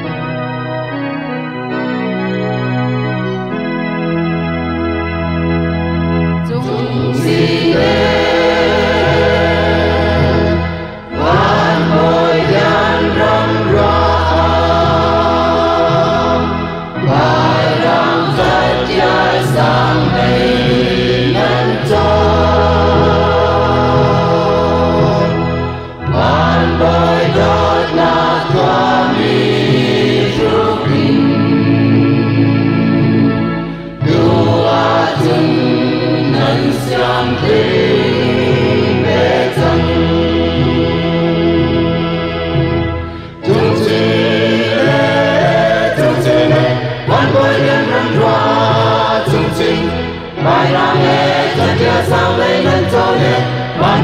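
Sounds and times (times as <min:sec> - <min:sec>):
group of people singing: 0:06.4 - 0:54.0.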